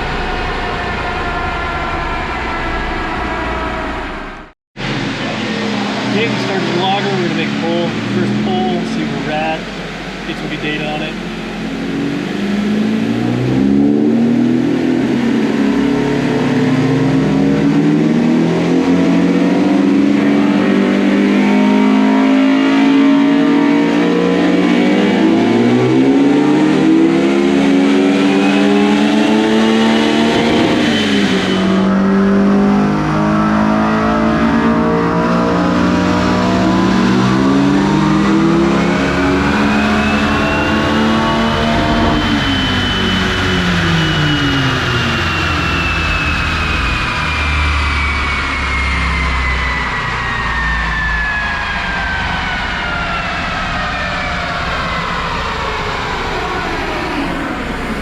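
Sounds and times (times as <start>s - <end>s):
car engine revving at full throttle: 0.0s - 58.0s
rising whine: 0.0s - 58.0s.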